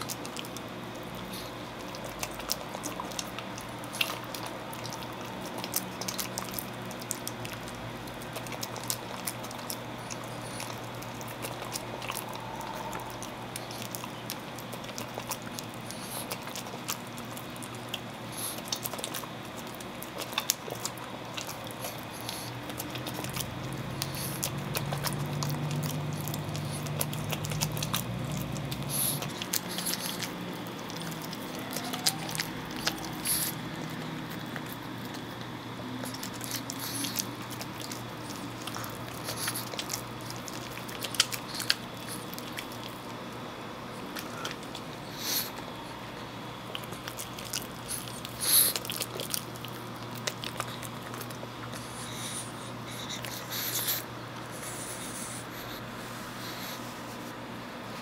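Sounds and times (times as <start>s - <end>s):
dog chewing and lip-smacking: 0.0s - 57.3s.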